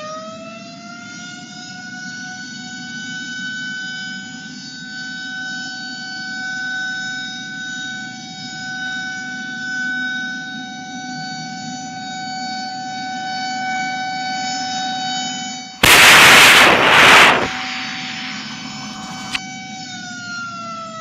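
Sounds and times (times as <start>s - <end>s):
civil defense siren: 0.0s - 21.0s.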